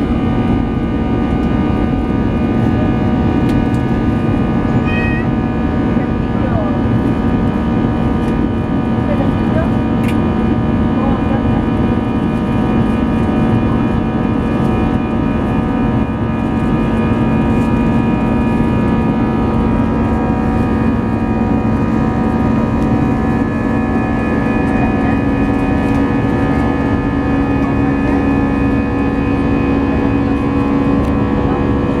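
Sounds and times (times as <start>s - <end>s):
jet engine roar in cabin: 0.0s - 32.0s.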